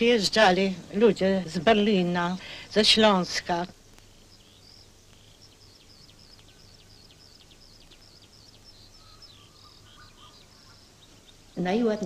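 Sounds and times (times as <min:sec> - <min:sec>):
bird chirping: 0:00.0 - 0:12.0
low steady hum: 0:00.0 - 0:12.0.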